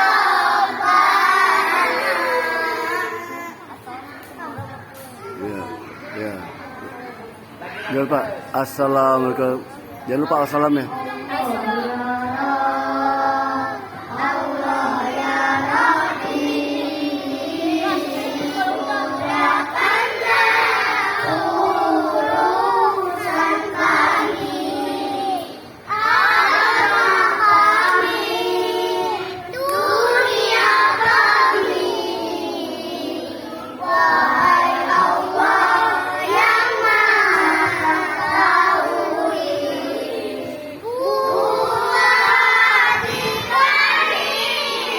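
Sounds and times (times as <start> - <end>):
children singing: 0.0 - 3.6, 11.4 - 44.9.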